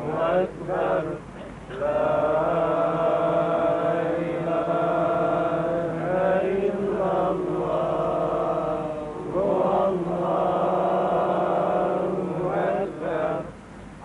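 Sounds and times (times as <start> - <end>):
man chanting recitation: 0.0 - 13.6.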